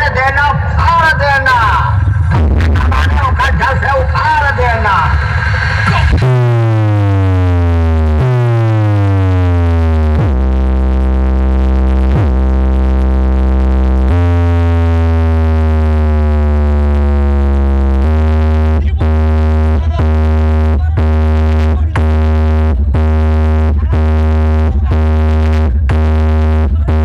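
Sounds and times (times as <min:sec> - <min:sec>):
deep buzzy synthesized bass tones: 0:00.0 - 0:27.0.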